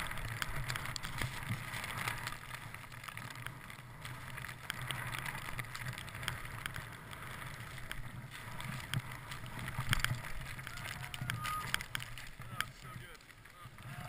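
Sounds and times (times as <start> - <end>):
small clicks: 0.0 - 14.0.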